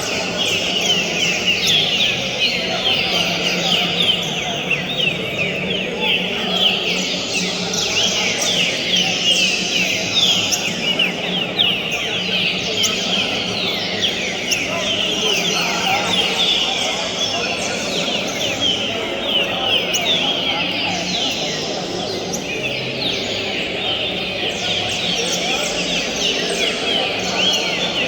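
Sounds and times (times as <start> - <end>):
many birds singing: 0.0 - 28.0
murmur of voices: 0.0 - 28.0.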